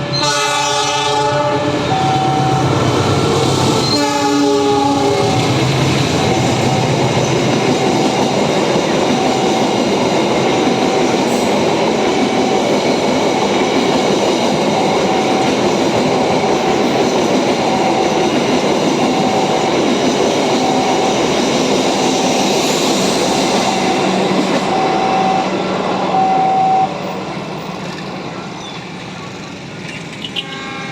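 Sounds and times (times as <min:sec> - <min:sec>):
train wheels rushing on rails: 0:00.0 - 0:30.9.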